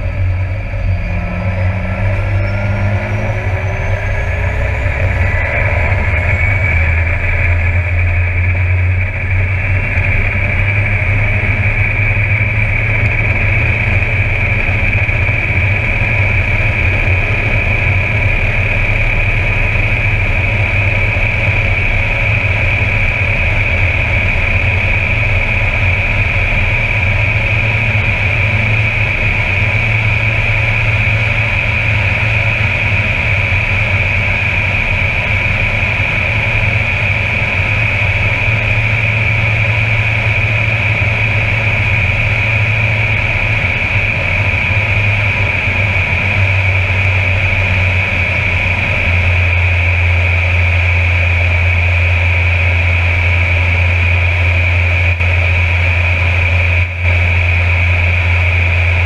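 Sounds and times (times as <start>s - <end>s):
deep propeller drone: 0.0s - 59.0s
high turbine whine: 0.0s - 59.0s.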